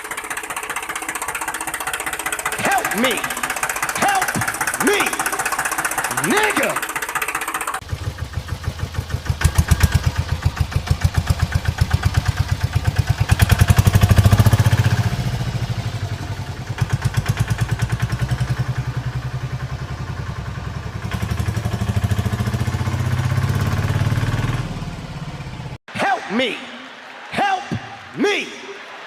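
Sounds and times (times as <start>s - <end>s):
tractor engine chugging: 0.0s - 25.8s.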